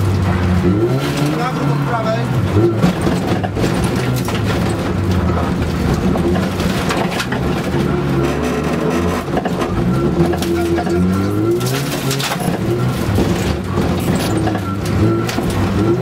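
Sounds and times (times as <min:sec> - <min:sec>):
car engine revving: 0:00.0 - 0:16.0
knocks and rattles: 0:00.0 - 0:16.0.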